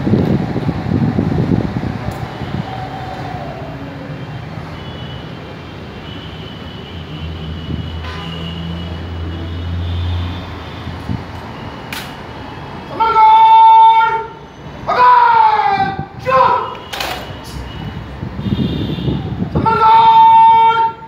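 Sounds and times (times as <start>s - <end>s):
distant traffic: 0.0s - 21.0s.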